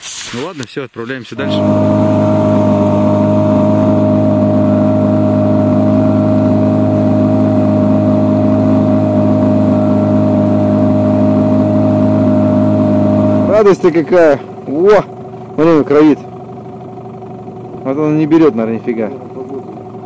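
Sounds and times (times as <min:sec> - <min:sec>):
outboard motor running: 0:01.2 - 0:20.0
steady motor whine: 0:01.3 - 0:20.0.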